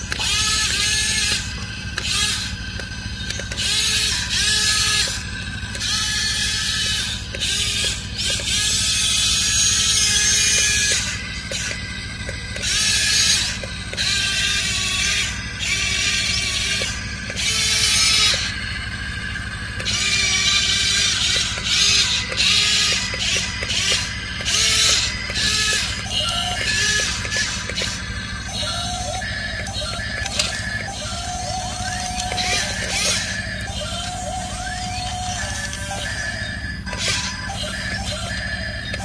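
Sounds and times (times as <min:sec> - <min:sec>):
electric motors whirring: 0:00.0 - 0:39.0.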